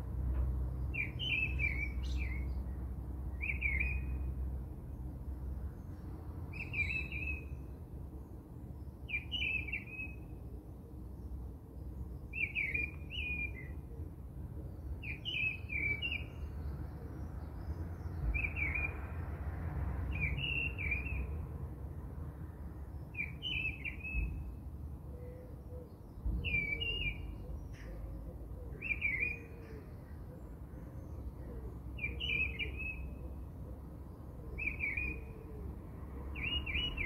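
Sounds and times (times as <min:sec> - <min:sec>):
songbird chirping: 0:00.0 - 0:21.5, 0:22.8 - 0:37.0.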